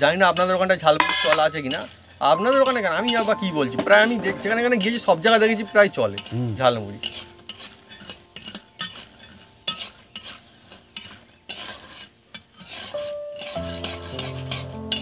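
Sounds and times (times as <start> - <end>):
faint oil sizzle: 0.0 - 15.0
metal spatula scraping a pan: 0.1 - 15.0.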